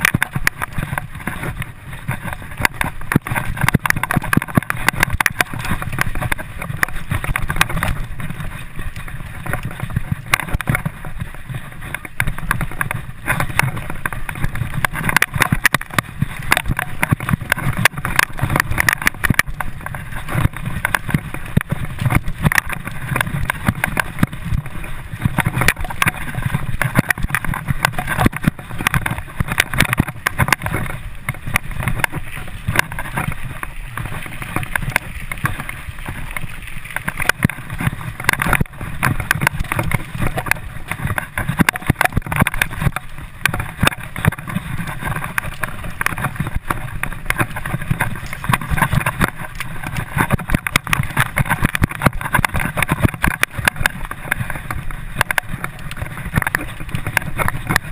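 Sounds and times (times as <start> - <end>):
bike rattling and knocking: 0.0 - 57.9
wind rushing on microphone: 0.0 - 57.9.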